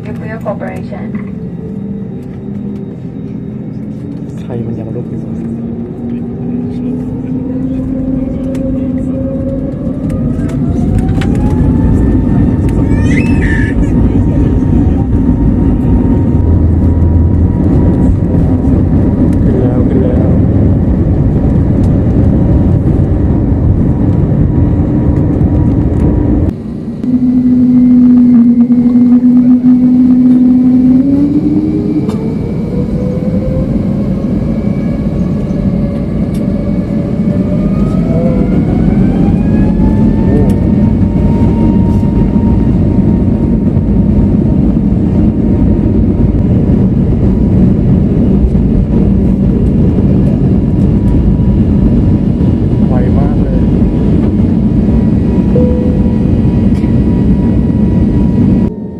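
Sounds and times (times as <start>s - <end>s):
jet engines heard from cabin: 0.0s - 58.9s
engines spooling up whine: 0.1s - 58.9s.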